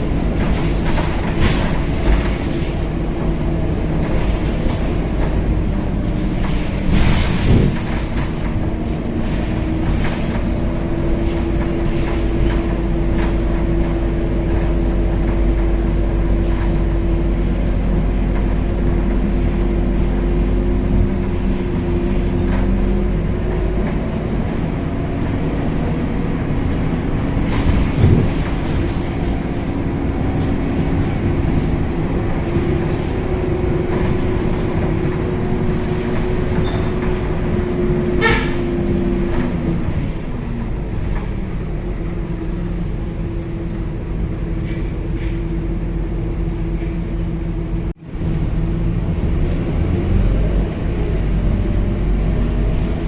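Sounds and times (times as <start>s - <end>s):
bus body rattling: 0.0s - 53.0s
bus engine rumble: 0.0s - 53.0s.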